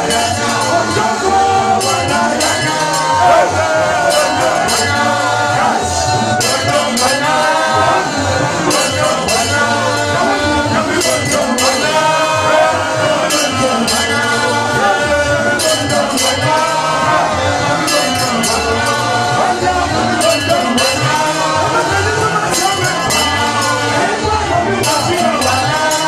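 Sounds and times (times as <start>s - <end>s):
bass line: 0.0s - 26.0s
hand percussion with shaker rattle: 0.0s - 26.0s
men singing through microphones: 0.0s - 26.0s.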